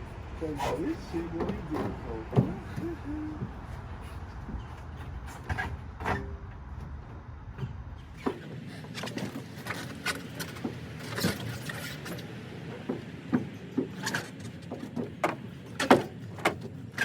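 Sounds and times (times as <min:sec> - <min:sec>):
tires and rims knocking: 0:00.0 - 0:17.0.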